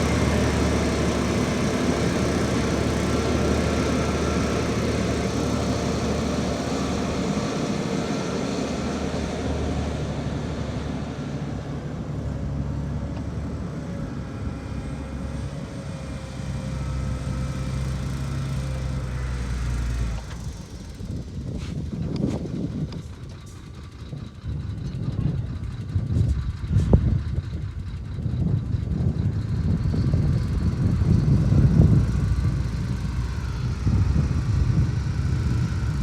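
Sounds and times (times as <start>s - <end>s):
diesel machinery engine drone: 0.0s - 36.0s.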